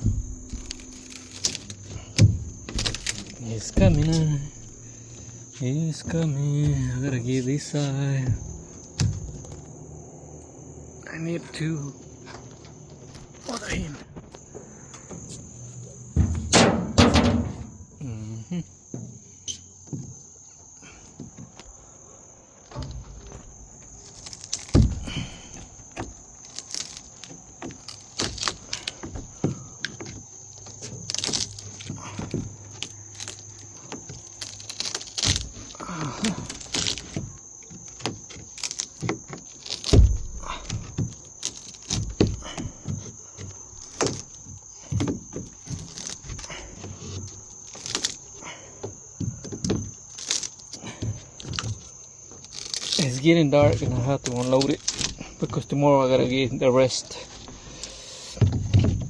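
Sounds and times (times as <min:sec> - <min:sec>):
wooden boards pried and hammered: 0:00.0 - 0:05.4, 0:06.0 - 0:09.7, 0:13.1 - 0:18.1, 0:22.7 - 0:56.4, 0:57.0 - 0:59.0
crickets chirring: 0:00.0 - 0:59.0.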